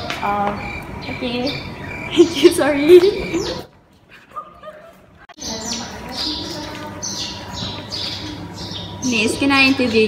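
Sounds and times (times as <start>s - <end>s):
outdoor background noise: 0.0s - 10.0s
small birds chirping: 0.2s - 3.7s, 5.4s - 10.0s.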